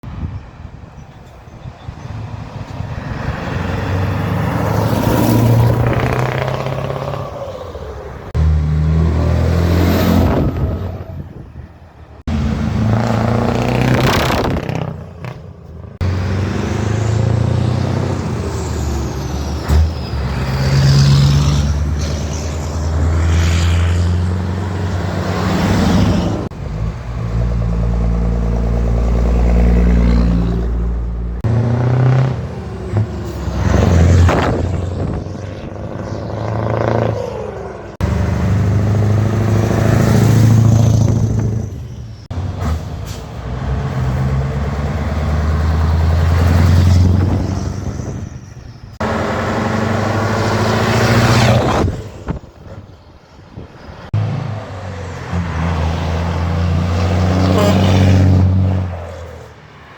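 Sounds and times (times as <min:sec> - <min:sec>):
truck engines driving past: 0:00.0 - 0:59.9.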